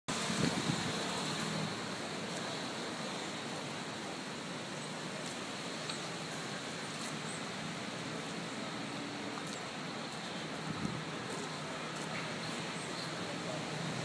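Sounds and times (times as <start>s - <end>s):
outdoor background hiss: 0.1s - 14.0s.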